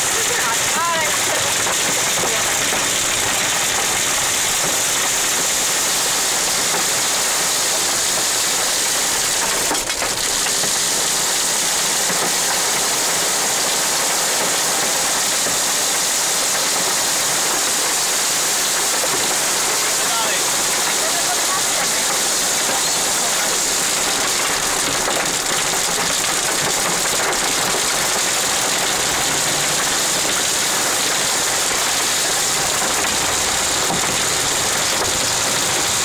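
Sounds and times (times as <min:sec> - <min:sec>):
heavy rain on car roof: 0:00.0 - 0:36.0.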